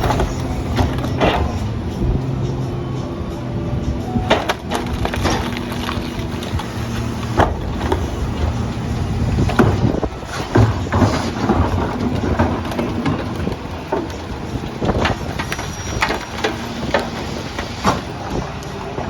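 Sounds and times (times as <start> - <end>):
garbage truck engine running: 0.0 - 19.0
knocks and clatters: 0.0 - 19.0.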